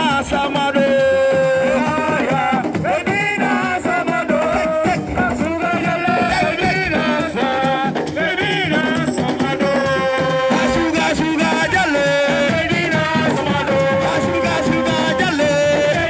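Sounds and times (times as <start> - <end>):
person singing: 0.0 - 16.0
rhythmic backing music: 0.0 - 16.0.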